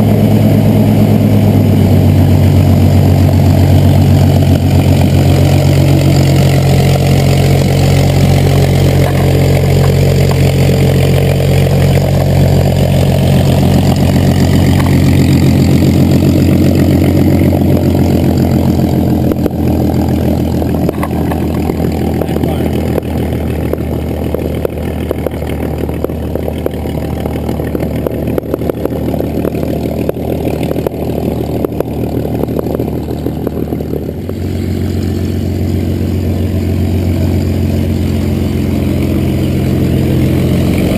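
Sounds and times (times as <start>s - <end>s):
piston aircraft engines idling: 0.0s - 40.9s.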